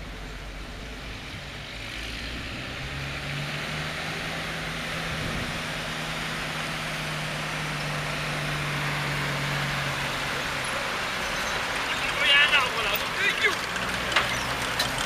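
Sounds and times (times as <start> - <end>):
vehicle engine driving over grass: 0.0 - 15.0.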